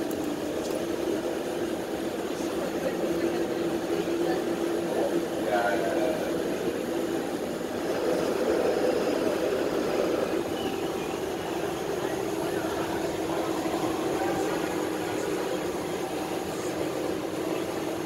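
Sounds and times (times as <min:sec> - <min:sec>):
streetcar motors and wheels humming: 0:00.0 - 0:18.0.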